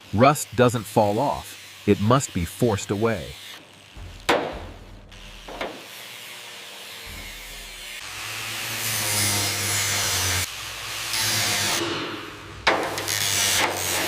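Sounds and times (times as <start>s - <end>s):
power tool scouring metal: 0.0s - 14.0s.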